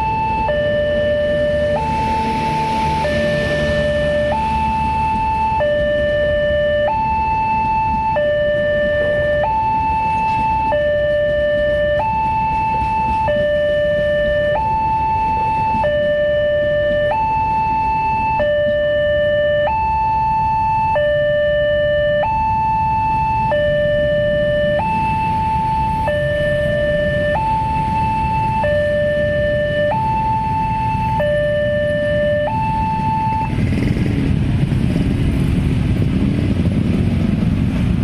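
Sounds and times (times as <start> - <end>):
passing train rumble: 0.0 - 18.3, 22.8 - 38.0
level crossing two-tone alarm: 0.0 - 33.6.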